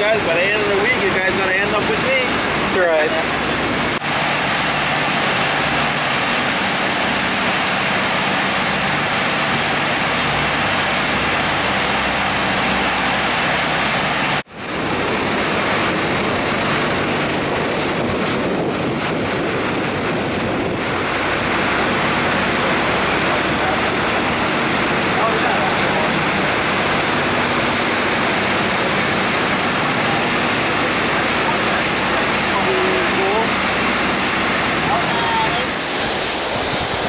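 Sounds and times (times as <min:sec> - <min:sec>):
boat engine drone: 0:00.0 - 0:37.0
loud wind: 0:00.0 - 0:37.0
rushing water: 0:00.0 - 0:37.0.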